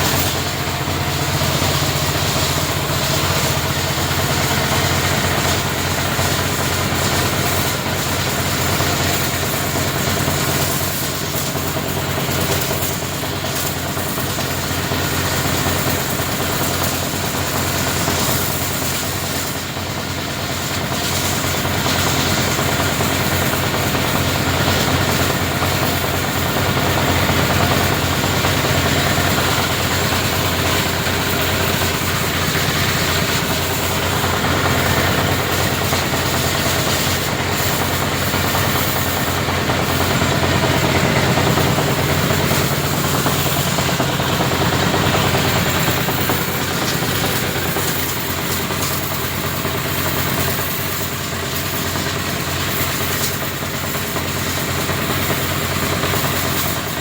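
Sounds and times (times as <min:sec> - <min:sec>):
pressure washer motor hum: 0:00.0 - 0:57.0
water jet hissing: 0:00.0 - 0:57.0.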